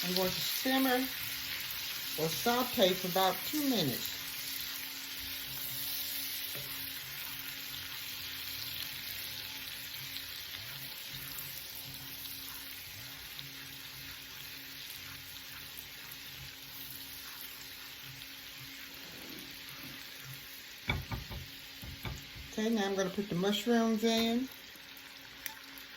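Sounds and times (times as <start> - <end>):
garlic sizzling in butter: 0.0 - 25.9.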